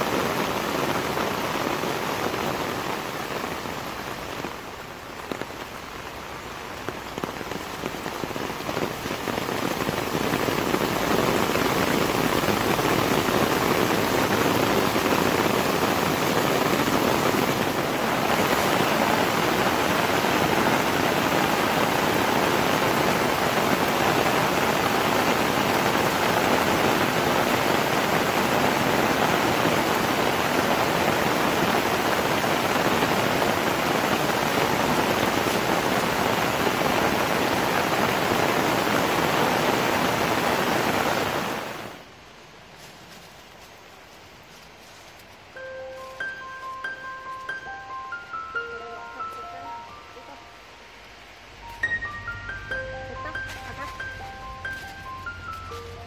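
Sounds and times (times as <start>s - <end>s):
heavy rain on an umbrella: 0.0s - 56.0s.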